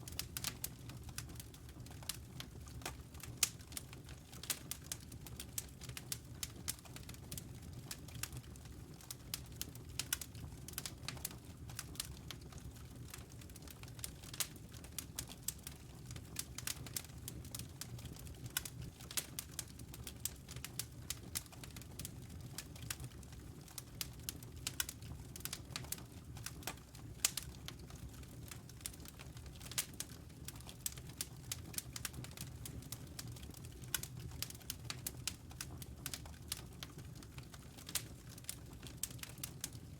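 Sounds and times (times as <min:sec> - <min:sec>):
logs crackling in a fireplace: 0:00.0 - 0:39.9.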